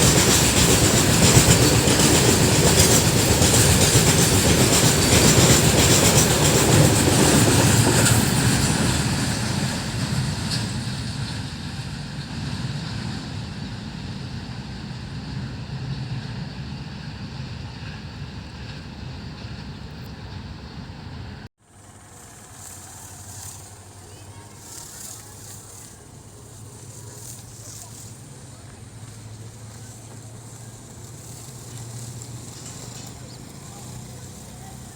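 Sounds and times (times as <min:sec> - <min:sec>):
train rumbling and rattling: 0:00.0 - 0:34.9.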